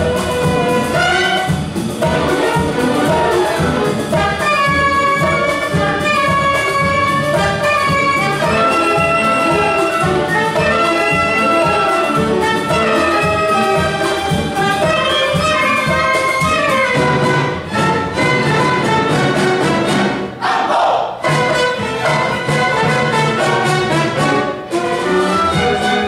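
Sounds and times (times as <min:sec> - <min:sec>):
orchestra playing loudly: 0:00.0 - 0:26.0.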